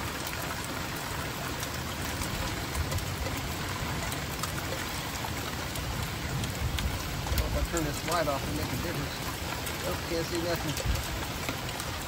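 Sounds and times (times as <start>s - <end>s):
heavy rain pouring: 0.0s - 12.0s
rain drop ticks: 0.0s - 12.0s.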